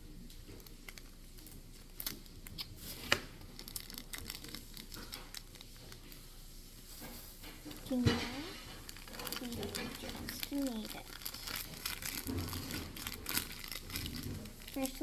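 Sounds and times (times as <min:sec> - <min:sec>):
paper and plastic crinkling: 0:00.3 - 0:15.0.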